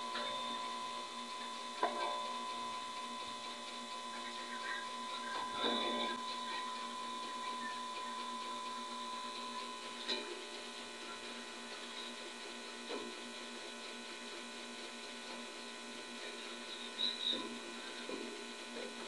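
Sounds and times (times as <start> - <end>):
tesla coil electrical hum: 0.0 - 19.0.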